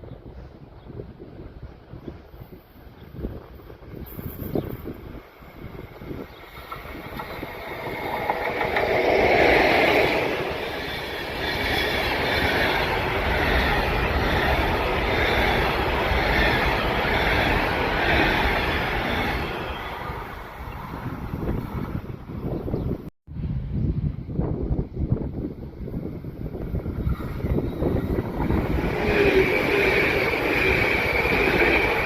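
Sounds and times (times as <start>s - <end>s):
train passing on rails: 0.0s - 23.0s, 24.4s - 32.0s.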